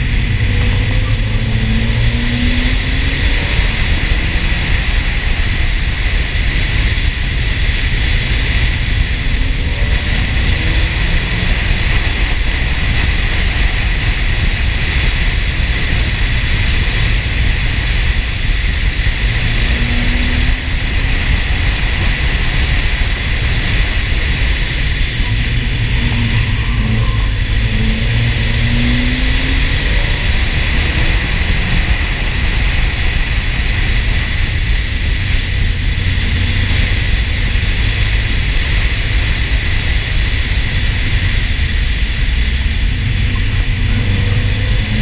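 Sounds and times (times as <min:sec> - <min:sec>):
faint car engine: 0:00.0 - 0:45.0
road and wind noise: 0:00.0 - 0:45.0.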